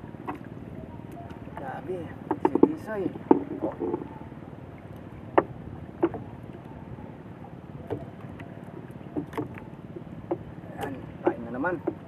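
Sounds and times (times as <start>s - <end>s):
wind and water wash: 0.0s - 12.0s
knocks and taps on boat: 0.1s - 4.3s, 5.2s - 7.1s, 7.8s - 12.0s.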